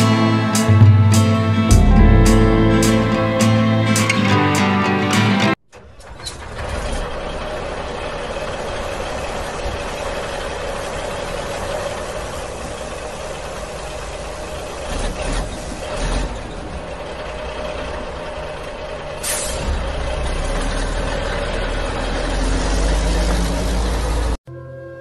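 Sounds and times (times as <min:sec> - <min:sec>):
truck engine running: 0:00.0 - 0:24.4.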